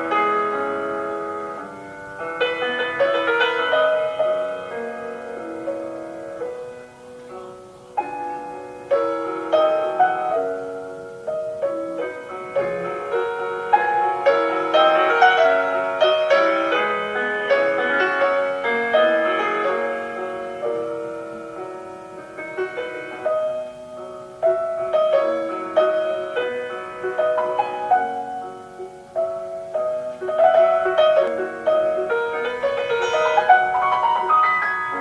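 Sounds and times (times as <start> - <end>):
classical piano piece: 0.0 - 35.0.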